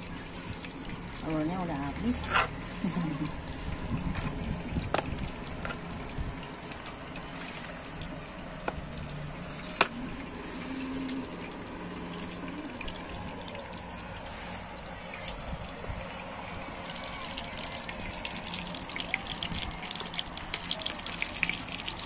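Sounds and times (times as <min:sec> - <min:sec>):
fish sizzling in oil: 0:00.0 - 0:15.4, 0:16.2 - 0:22.0.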